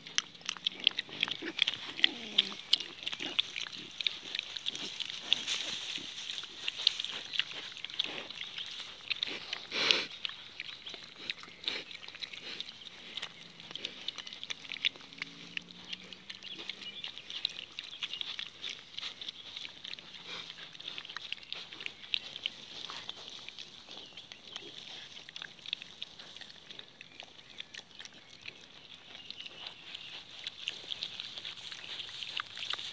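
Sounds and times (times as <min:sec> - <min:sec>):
piglets grunting softly: 0:00.0 - 0:32.9
rustling of fur and grass: 0:00.8 - 0:27.2, 0:28.0 - 0:32.9.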